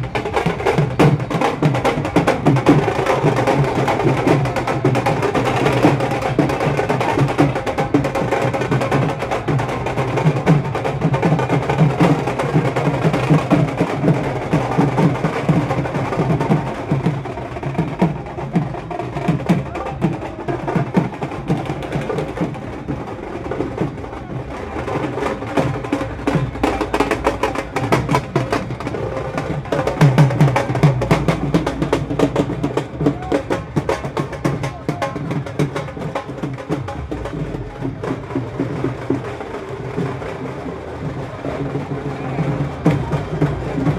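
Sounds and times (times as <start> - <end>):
fast dense drumming music: 0.0 - 43.9.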